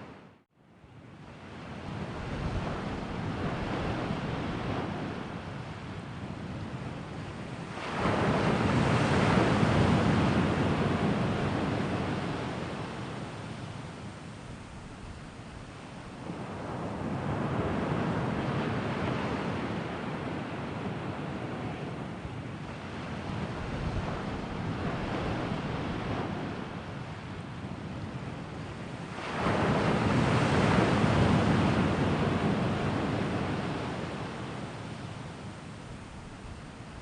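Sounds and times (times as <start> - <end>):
sea waves washing on shore: 1.4 - 37.0.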